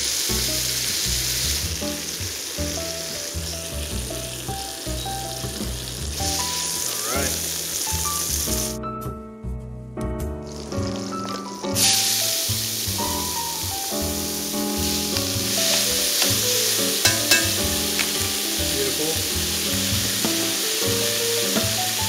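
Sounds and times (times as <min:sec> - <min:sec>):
onions sizzling in hot oil: 0:00.0 - 0:08.8, 0:10.4 - 0:22.0.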